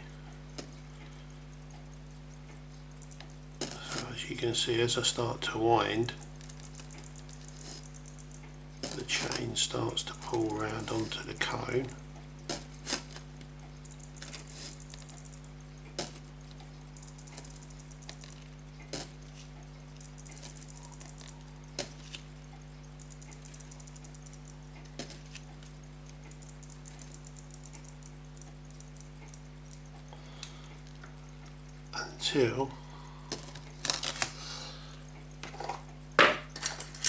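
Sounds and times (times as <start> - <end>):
low electrical hum: 0.0 - 37.0
pocket watch winding clicks: 0.0 - 37.0.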